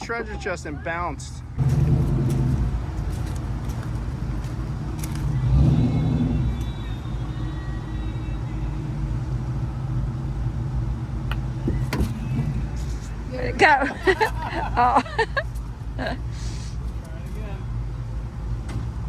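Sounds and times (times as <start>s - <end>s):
motor vehicle low rumble: 0.0s - 19.0s.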